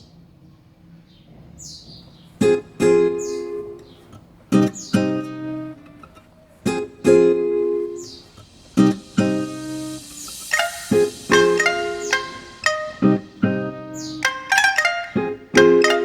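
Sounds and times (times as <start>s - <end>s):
acoustic guitar chords: 2.3s - 16.0s.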